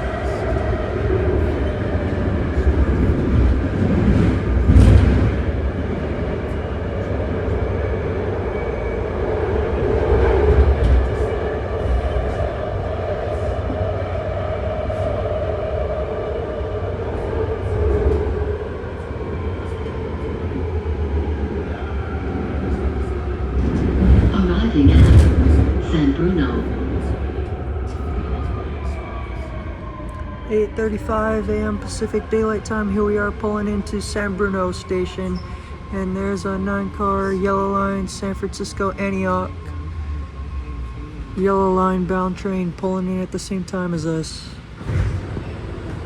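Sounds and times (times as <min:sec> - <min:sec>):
train wheels rumbling on rail: 0:00.0 - 0:38.4, 0:44.5 - 0:46.0.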